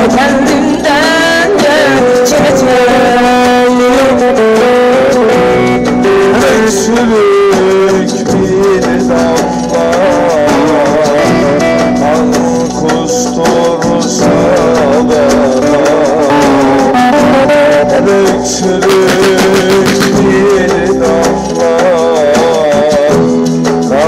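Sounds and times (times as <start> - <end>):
instrumental accompaniment: 0.0 - 24.0
man singing into microphone: 0.0 - 24.0.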